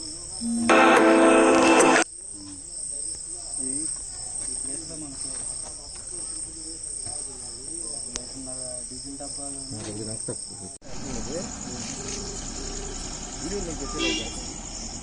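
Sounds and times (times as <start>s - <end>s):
murmuring voices: 0.0s - 14.5s
crickets chirring: 0.0s - 15.0s.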